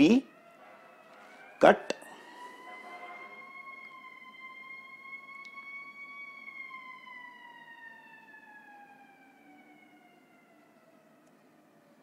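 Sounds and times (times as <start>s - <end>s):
fire engine siren: 0.0s - 12.0s.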